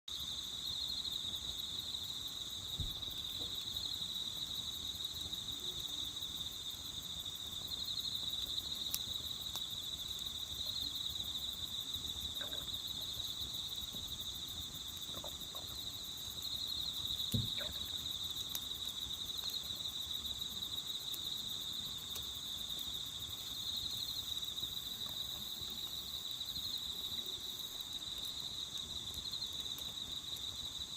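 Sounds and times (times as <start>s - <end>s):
crickets trilling: 0.1s - 30.9s
campfire snaps: 2.7s - 30.9s.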